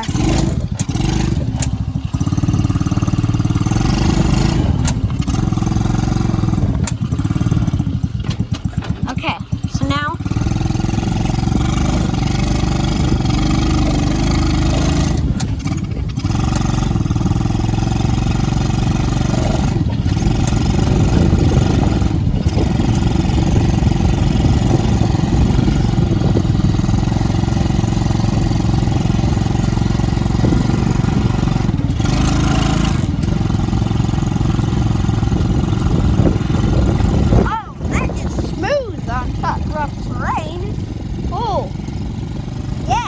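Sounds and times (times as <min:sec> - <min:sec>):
go-kart engine running: 0:00.0 - 0:43.0.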